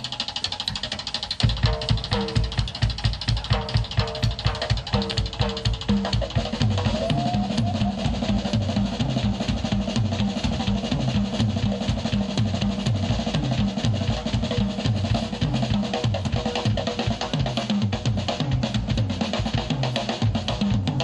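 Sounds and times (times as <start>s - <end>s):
drum solo: 0.0s - 21.0s.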